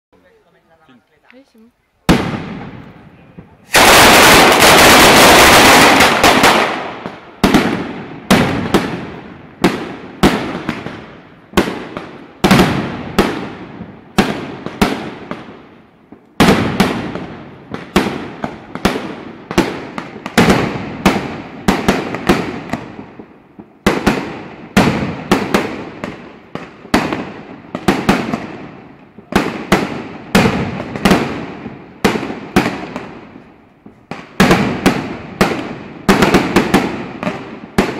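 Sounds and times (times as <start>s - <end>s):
rattle of firecracker explosions: 2.0s - 37.9s
firecracker bangs: 2.1s - 37.9s.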